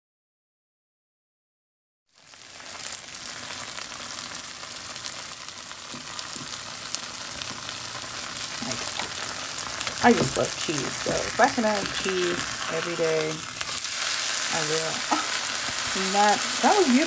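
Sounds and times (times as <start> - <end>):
cheese sizzling in a skillet: 2.1 - 17.0.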